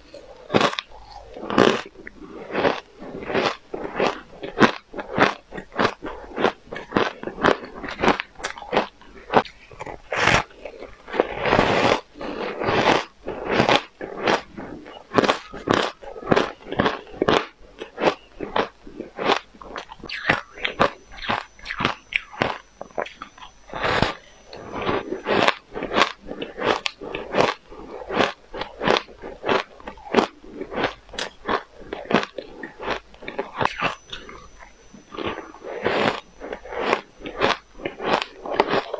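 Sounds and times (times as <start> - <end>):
crunching ice while chewing: 0.0 - 38.9.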